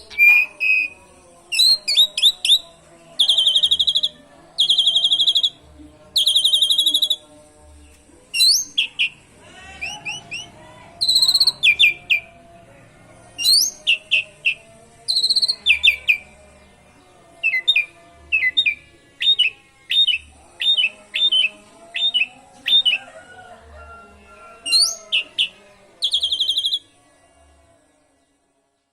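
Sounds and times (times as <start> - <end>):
starling singing: 0.0 - 27.6.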